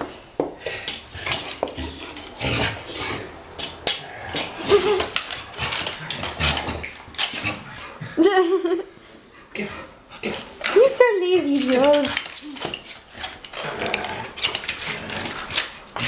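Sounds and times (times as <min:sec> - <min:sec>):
pet scuffling in play fight: 0:00.0 - 0:08.2, 0:10.2 - 0:16.0.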